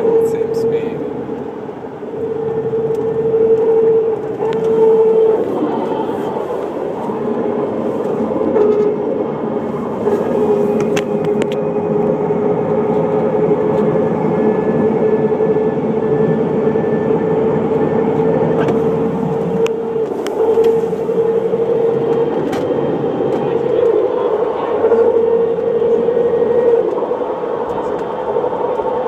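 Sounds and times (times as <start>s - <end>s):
differential whining: 0.0s - 29.0s
road and drivetrain noise: 0.0s - 29.0s.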